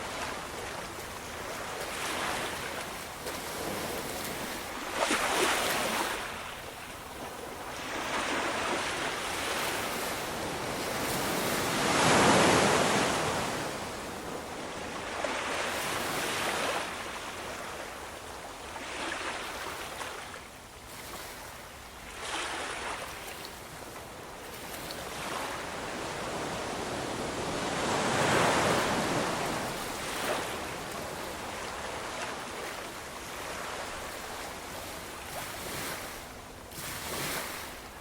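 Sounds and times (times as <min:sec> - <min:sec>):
ocean waves breaking on shore: 0:00.0 - 0:38.0.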